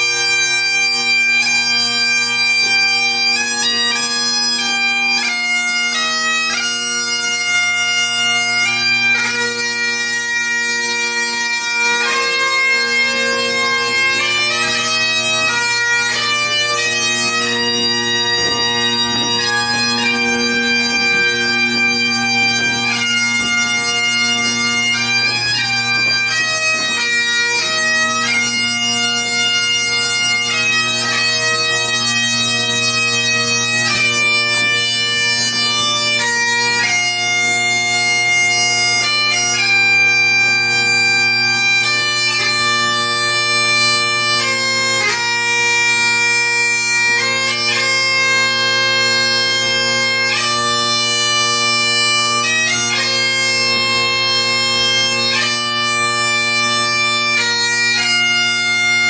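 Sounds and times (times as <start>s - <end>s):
bagpipes playing a tune: 0.0s - 59.0s.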